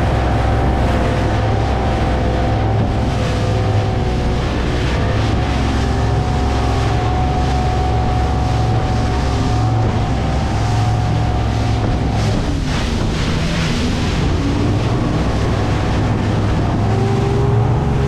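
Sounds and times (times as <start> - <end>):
outboard motor running: 0.0 - 18.0
water wash rushing past: 0.0 - 18.0
wind on the microphone: 0.0 - 18.0.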